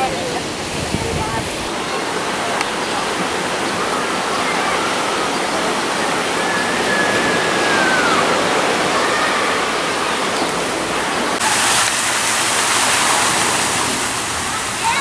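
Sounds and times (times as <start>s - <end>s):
ocean surf washing in: 0.0s - 15.0s.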